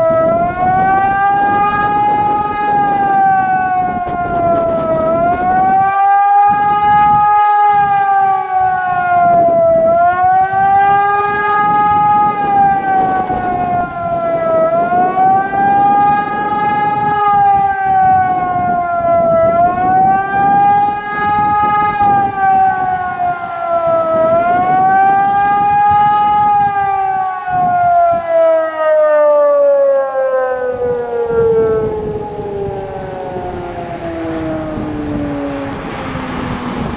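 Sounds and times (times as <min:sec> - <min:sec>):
siren wailing: 0:00.0 - 0:36.9.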